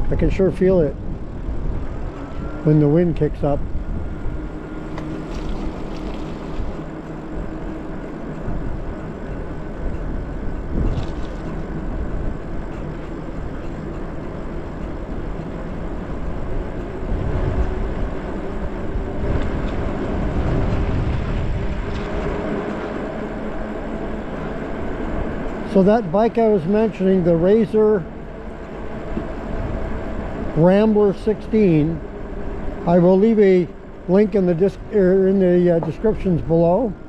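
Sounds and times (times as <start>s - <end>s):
tyres rolling on pavement: 0.0s - 37.0s
wind buffeting microphone: 0.0s - 37.0s.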